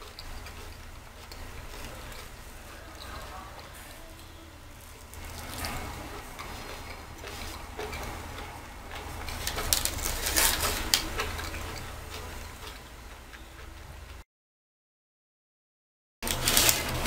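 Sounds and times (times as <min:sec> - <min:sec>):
chewing pizza crunching: 0:00.0 - 0:14.2
low steady hum: 0:00.0 - 0:14.2.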